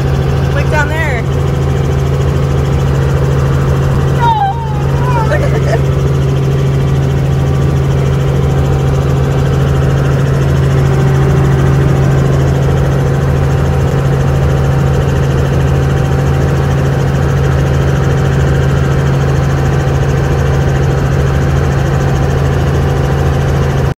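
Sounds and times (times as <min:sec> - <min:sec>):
helicopter engine and rotor drone: 0:00.0 - 0:23.9.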